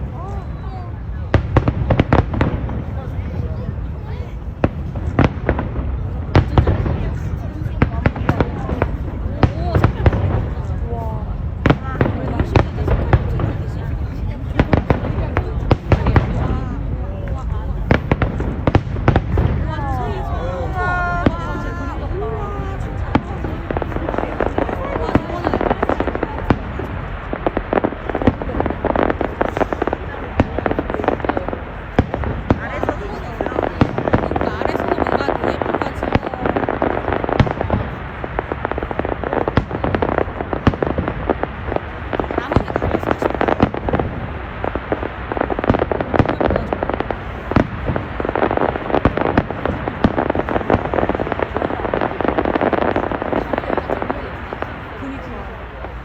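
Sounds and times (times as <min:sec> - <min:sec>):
fireworks cracking and banging: 0:00.0 - 0:56.0.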